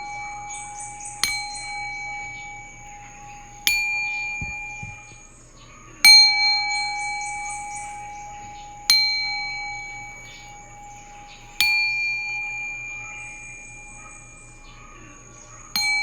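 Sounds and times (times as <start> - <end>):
high tinkling: 0.0 - 5.3, 6.1 - 16.0
singing bowl ringing: 0.0 - 5.3, 6.0 - 16.0.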